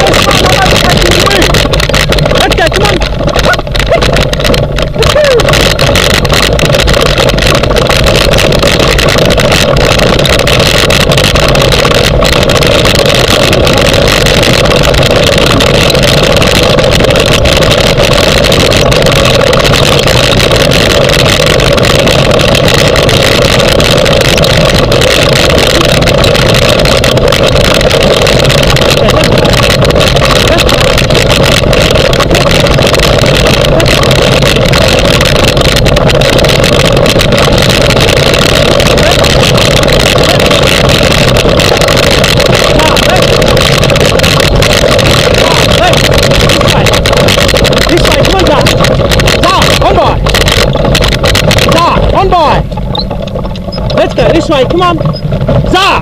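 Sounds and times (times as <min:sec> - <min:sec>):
small clicks: 0:00.0 - 0:56.0
wheels rumbling and rattling: 0:00.0 - 0:56.0.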